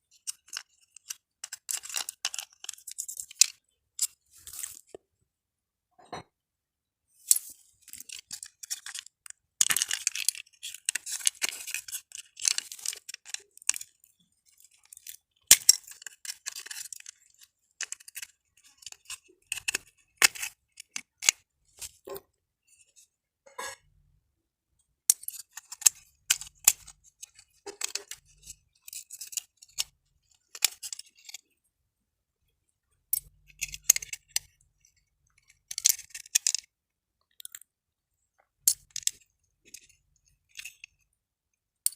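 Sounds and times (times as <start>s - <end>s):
clicks and clinks of small parts: 0.1s - 5.0s, 7.2s - 22.2s, 25.1s - 31.6s, 33.1s - 37.7s, 38.6s - 41.2s.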